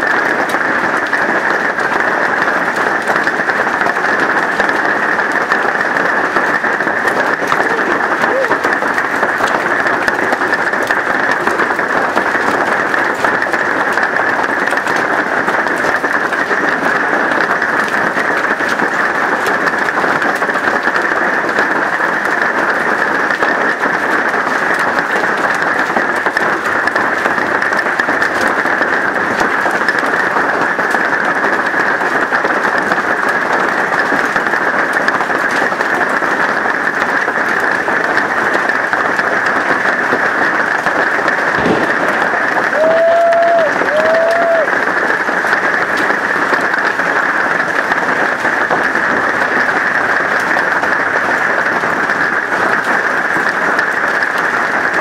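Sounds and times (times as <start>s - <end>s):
hail and rain pelting roof: 0.0s - 55.0s.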